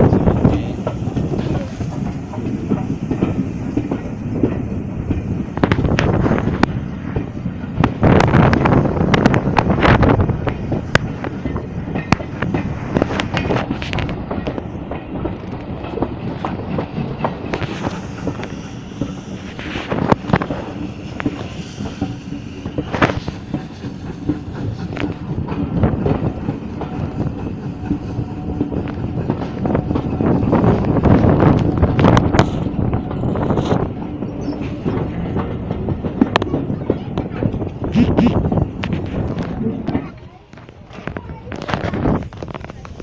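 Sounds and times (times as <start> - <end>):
railway carriage rumbling: 0.0 - 43.0
wheels clacking over rail joints: 0.0 - 43.0.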